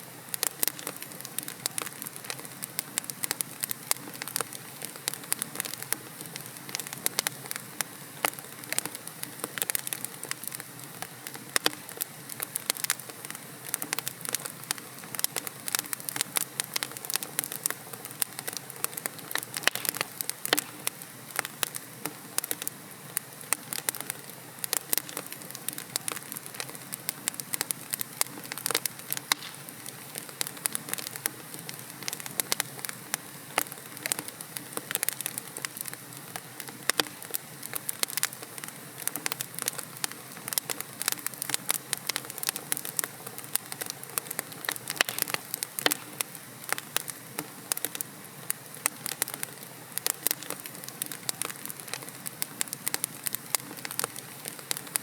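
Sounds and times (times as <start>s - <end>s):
wood logs crackling and popping: 0.0s - 55.0s.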